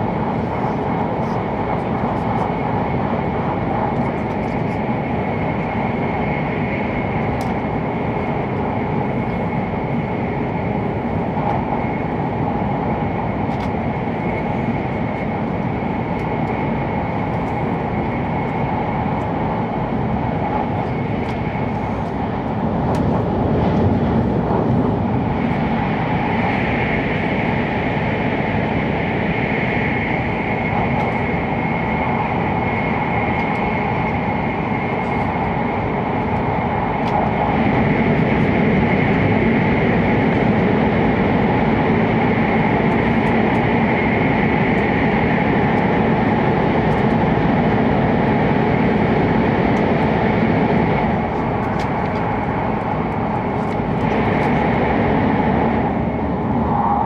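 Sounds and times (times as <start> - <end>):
high whine: 0.0 - 57.0.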